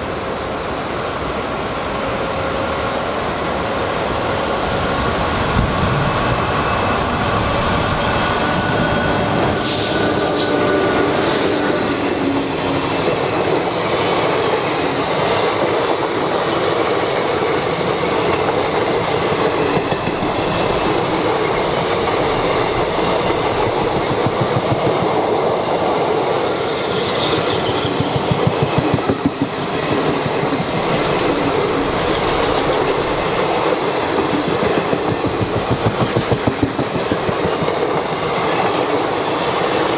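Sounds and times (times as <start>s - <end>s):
train wheels clattering on rails: 6.8s - 39.9s.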